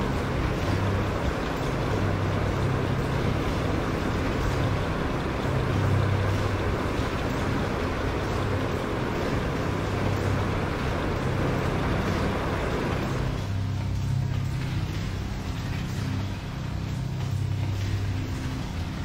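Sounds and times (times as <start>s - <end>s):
engine running hum and rumble: 0.0s - 19.0s.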